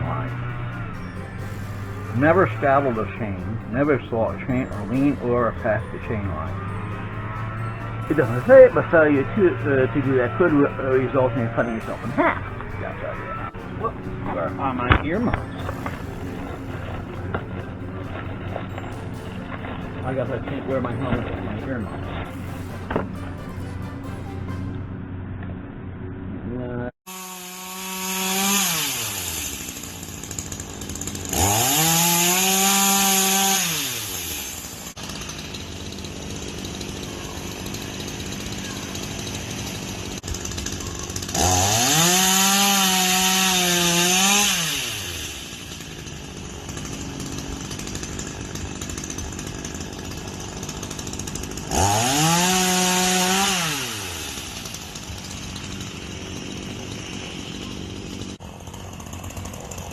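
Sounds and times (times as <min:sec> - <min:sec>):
chainsaw idling and revving: 0:00.0 - 0:24.4, 0:27.1 - 0:59.9.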